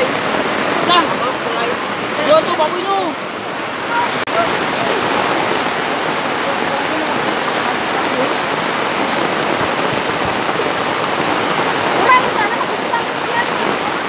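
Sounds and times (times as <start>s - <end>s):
faint voices: 0.0s - 14.0s
floodwater rushing: 0.0s - 14.0s
heavy rain: 0.0s - 14.0s.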